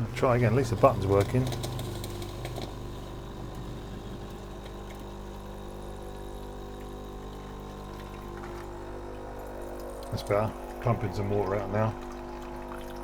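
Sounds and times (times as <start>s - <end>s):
coffee machine pump humming: 0.0s - 13.0s.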